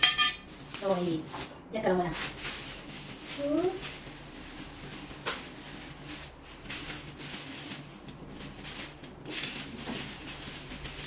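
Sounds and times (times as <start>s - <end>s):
plastic bag crinkling: 0.4s - 11.0s.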